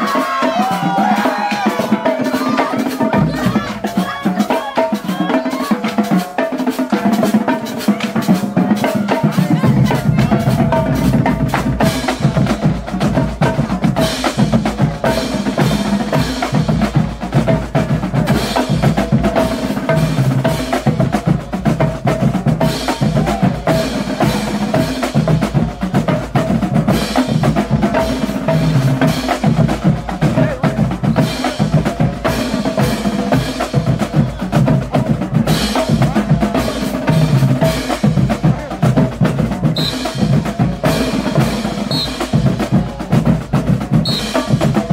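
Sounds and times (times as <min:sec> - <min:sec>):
marching bass drums: 0:00.0 - 0:44.9
snare drums rattling: 0:00.0 - 0:44.9.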